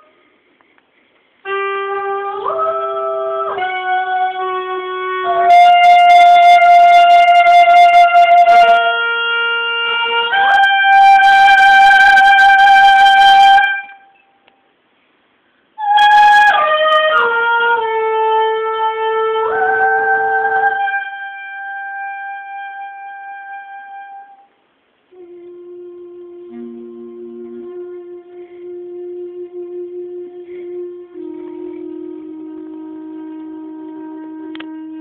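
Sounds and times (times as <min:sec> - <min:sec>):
wind instrument sustained notes: 0:00.0 - 0:00.4, 0:01.4 - 0:14.4, 0:15.8 - 0:35.0.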